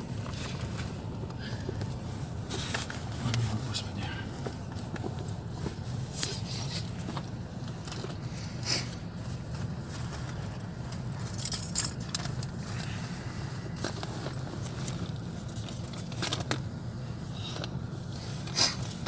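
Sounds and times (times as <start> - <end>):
clothing rustle: 0.0 - 17.3
car engine idling: 0.0 - 19.0.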